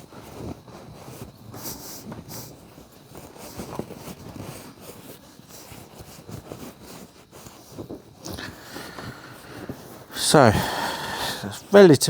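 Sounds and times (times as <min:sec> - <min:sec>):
leather upholstery rustling and scraping: 0:00.0 - 0:11.6.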